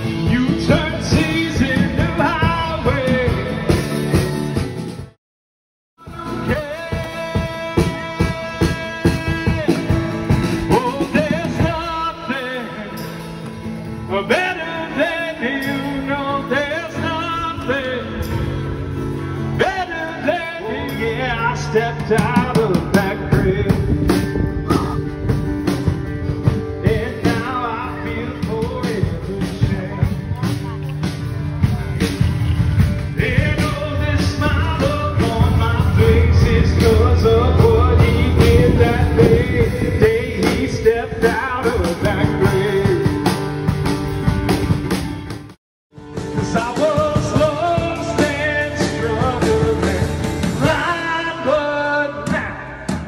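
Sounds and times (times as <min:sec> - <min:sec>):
rock and roll music with singing: 0:00.0 - 0:05.2, 0:06.0 - 0:53.0.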